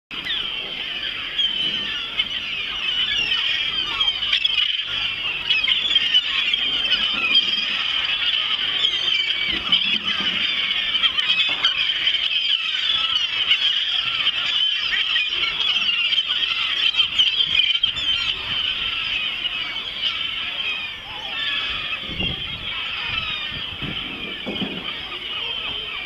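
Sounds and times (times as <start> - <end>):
flock of gulls calling: 0.1 - 26.0.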